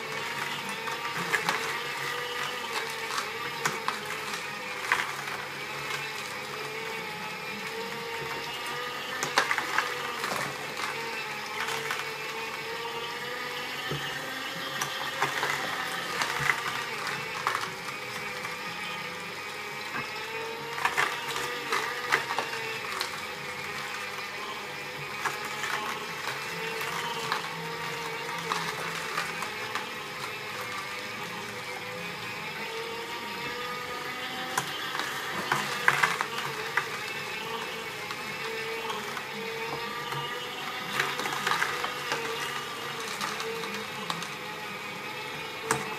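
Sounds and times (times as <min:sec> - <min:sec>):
carrots cracking and crunching: 0:00.0 - 0:45.9
juicer motor whine: 0:00.0 - 0:45.9.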